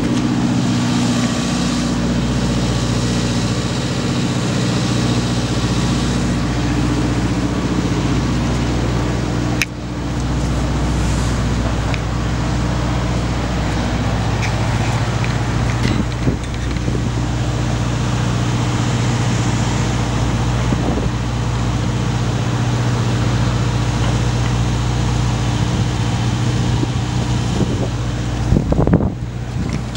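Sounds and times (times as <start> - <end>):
diesel engines and generators humming: 0.0 - 29.9.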